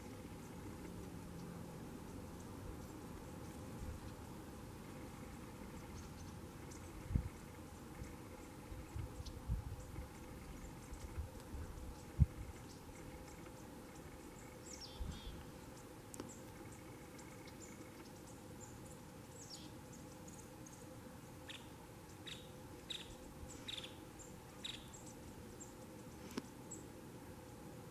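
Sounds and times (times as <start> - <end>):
small birds calling: 0.0 - 27.5.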